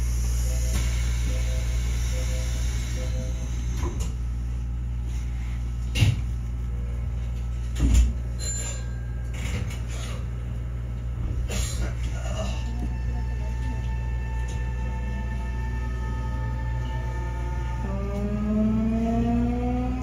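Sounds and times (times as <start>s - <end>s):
electric train rumble: 0.0s - 5.7s, 8.4s - 20.0s.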